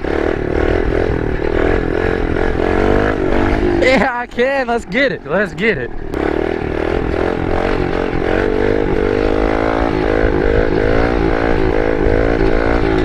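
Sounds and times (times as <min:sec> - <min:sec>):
small motorbike engine revving: 0:00.0 - 0:04.0, 0:06.1 - 0:13.0.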